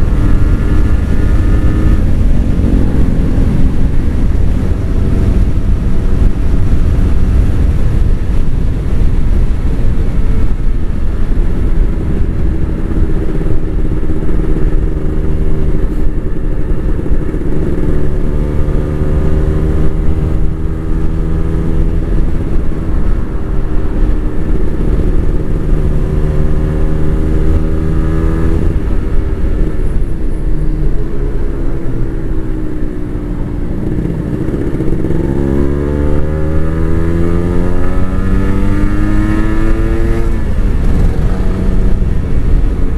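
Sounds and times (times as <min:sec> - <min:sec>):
motorcycle engine running: 0:00.0 - 0:42.9
wind rumble on microphone: 0:00.0 - 0:42.9.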